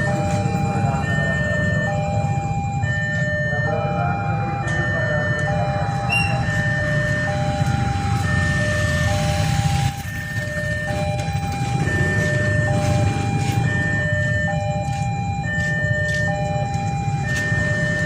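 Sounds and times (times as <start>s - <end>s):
level crossing two-tone alarm: 0.0s - 18.0s.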